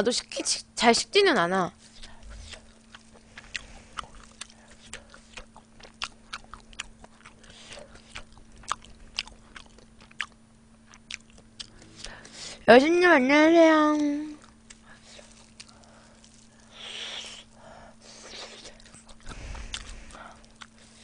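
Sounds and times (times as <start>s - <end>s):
close-miked chewing: 1.8s - 12.7s, 14.2s - 21.0s.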